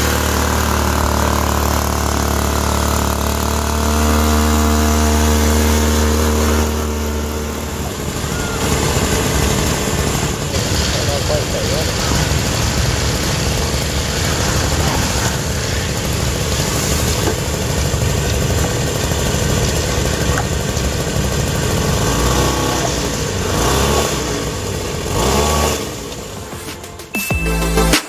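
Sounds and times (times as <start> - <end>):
heavy vehicle engine revving: 0.0 - 26.6.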